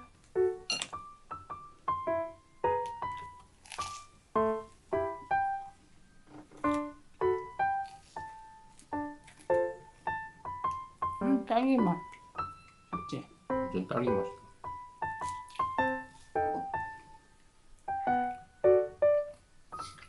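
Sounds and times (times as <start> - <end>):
bouncy keyboard melody: 0.0 - 3.4, 4.4 - 20.0.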